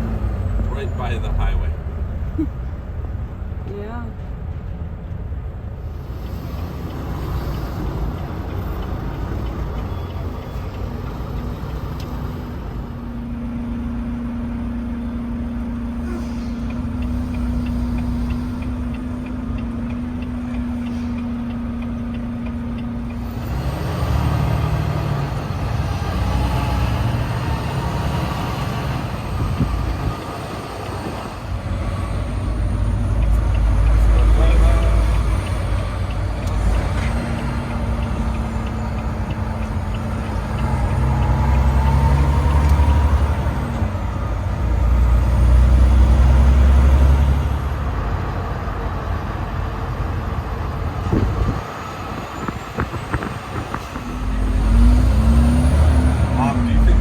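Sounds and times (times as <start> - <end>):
truck engine rumble inside cab: 0.0 - 57.0.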